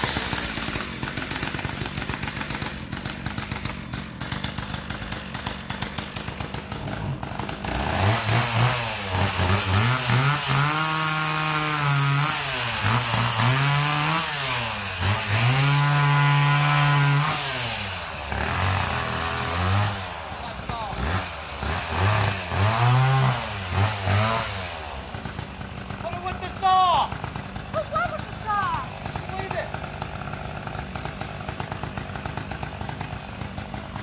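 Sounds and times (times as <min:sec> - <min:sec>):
chainsaw idling and revving: 0:00.0 - 0:34.0.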